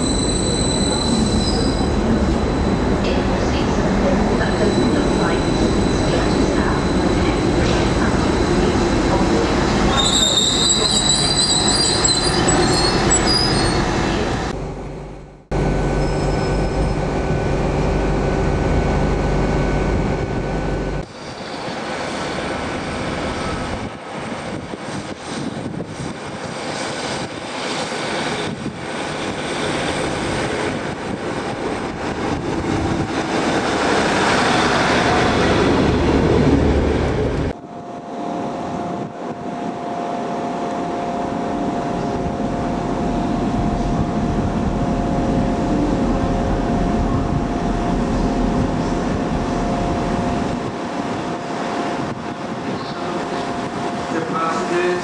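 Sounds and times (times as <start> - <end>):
diesel train rumble: 0.0 - 55.0
train high whine: 0.0 - 55.0.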